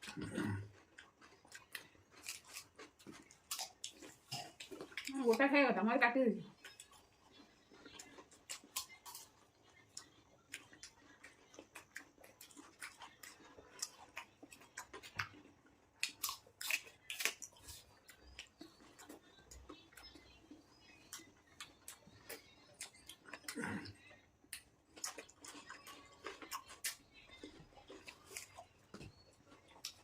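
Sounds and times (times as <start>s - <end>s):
chewing crunchy fruit: 0.0s - 5.6s, 6.5s - 30.0s.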